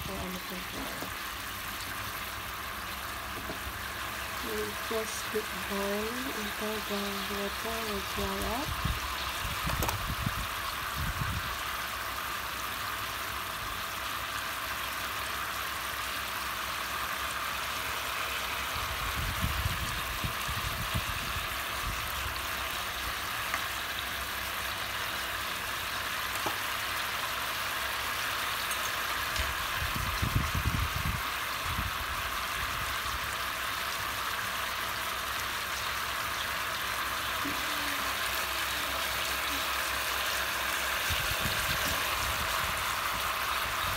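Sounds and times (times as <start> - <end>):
meat sizzling in a pan: 0.0 - 43.9.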